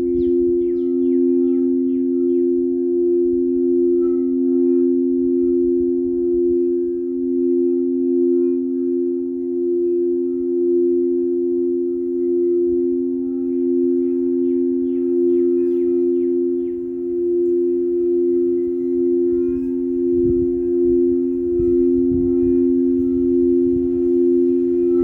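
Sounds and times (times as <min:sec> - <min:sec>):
bird chirping: 0:00.0 - 0:25.0
singing bowls ringing: 0:00.0 - 0:25.0.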